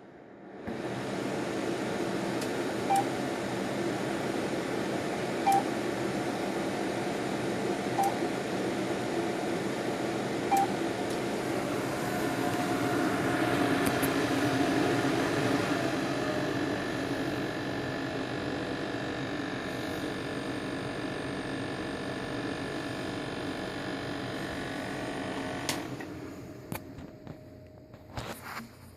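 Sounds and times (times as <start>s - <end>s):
machine fan and pump hum: 0.0s - 28.9s.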